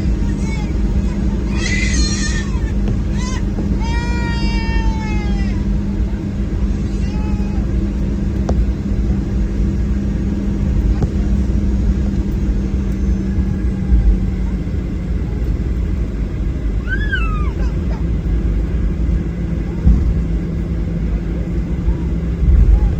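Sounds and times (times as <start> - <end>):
airplane cabin rumble and hum: 0.0 - 22.9.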